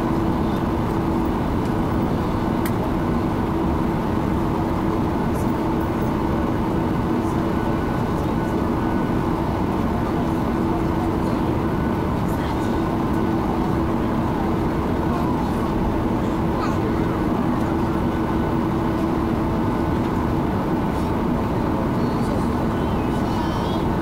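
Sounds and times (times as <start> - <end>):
airplane cabin engine hum: 0.0 - 24.0
high engine whine: 0.0 - 24.0.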